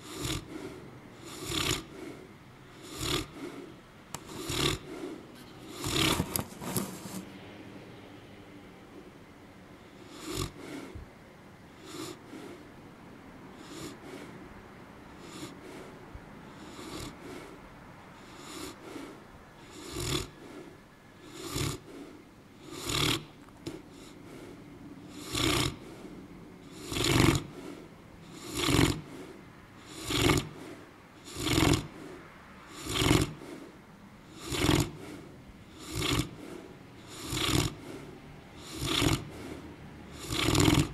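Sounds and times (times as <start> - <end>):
dog snoring: 0.0 - 7.2, 9.9 - 11.0, 11.7 - 12.7, 13.6 - 14.4, 15.2 - 15.9, 16.5 - 17.6, 18.2 - 40.9.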